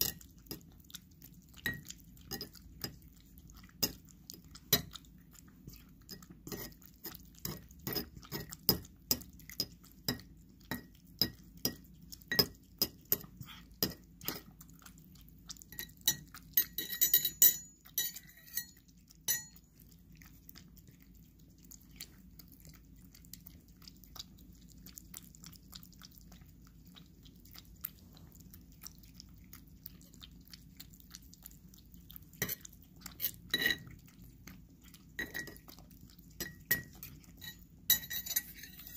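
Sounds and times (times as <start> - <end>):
cat chewing and licking: 0.0 - 38.9.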